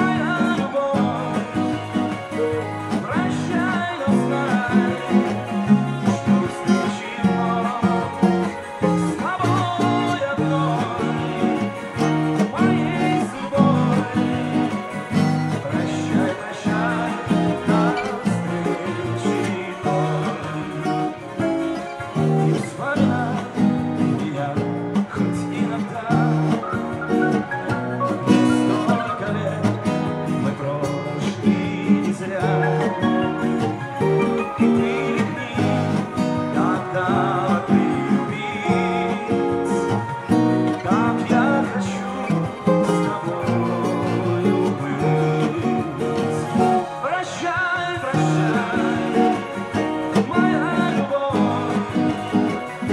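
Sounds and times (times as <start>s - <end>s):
acoustic guitar strumming: 0.0s - 52.9s.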